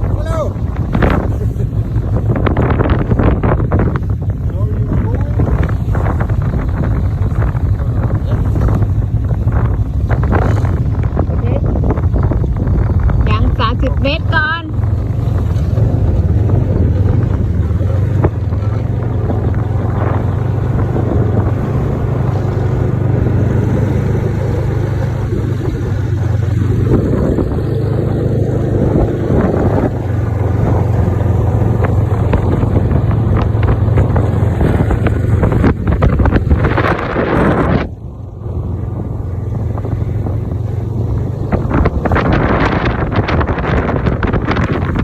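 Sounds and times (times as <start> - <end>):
snowmobile engine droning: 0.0 - 45.0
wind buffeting microphone: 0.0 - 45.0.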